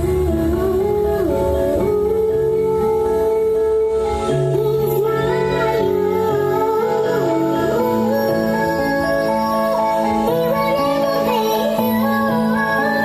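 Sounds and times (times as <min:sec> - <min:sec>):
steady bass: 0:00.0 - 0:10.6
music over outdoor sound system: 0:00.0 - 0:13.0
sliding wavering melody: 0:00.0 - 0:13.0.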